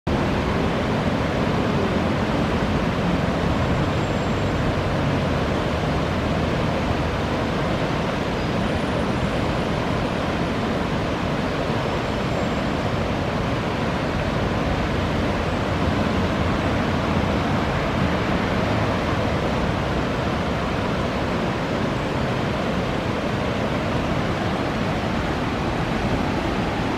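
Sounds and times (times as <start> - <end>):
river rapids rushing: 0.1 - 26.9.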